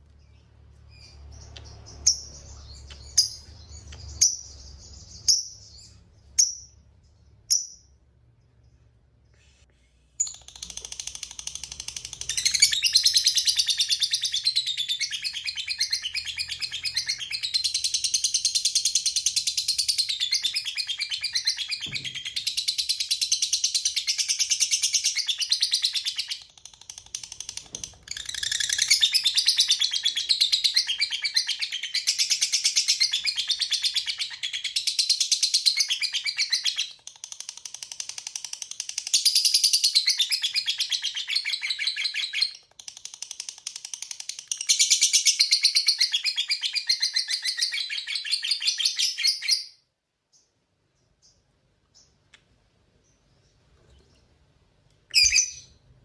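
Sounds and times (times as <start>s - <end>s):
lovebird chirps: 0.2s - 8.9s, 10.1s - 52.3s, 55.0s - 55.8s.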